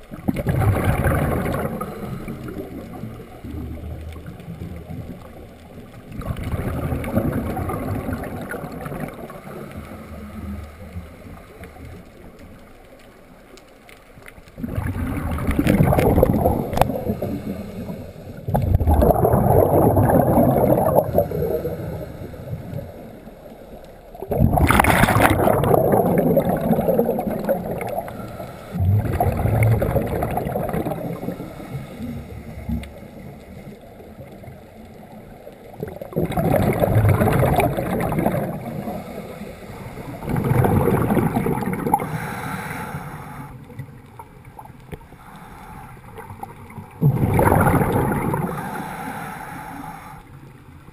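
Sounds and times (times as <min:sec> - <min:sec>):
underwater bubbles gurgling: 0:00.0 - 0:50.9
underwater water noise: 0:00.0 - 0:50.9.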